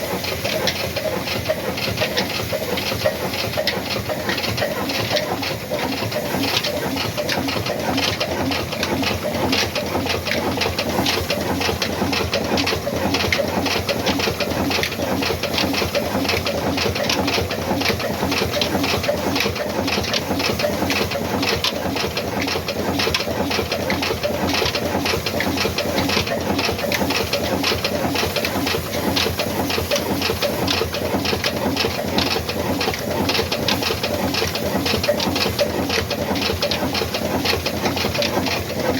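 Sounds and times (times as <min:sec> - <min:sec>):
diesel engine running rhythmically: 0:00.0 - 0:38.9.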